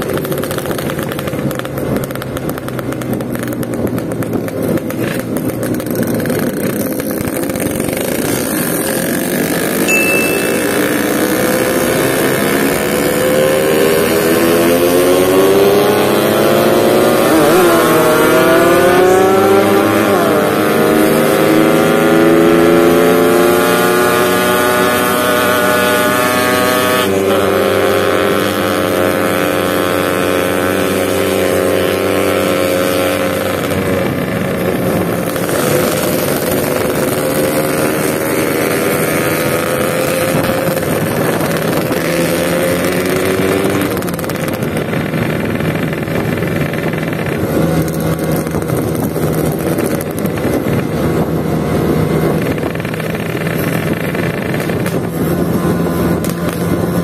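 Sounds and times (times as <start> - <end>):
two-stroke motorcycle engine: 0.0 - 57.0.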